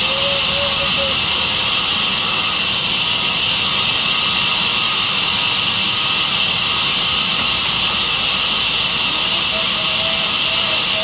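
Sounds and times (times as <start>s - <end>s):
sawmill saw running: 0.0s - 11.0s.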